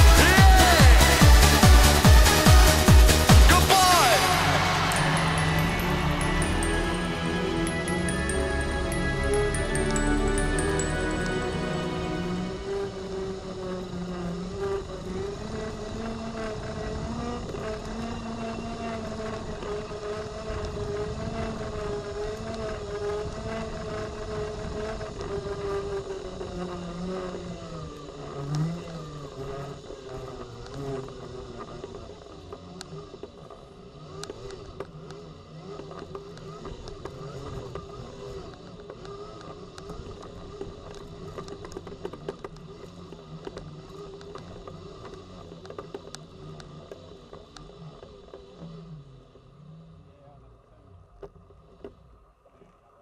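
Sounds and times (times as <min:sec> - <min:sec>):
electric motor whining: 0:00.0 - 0:50.2.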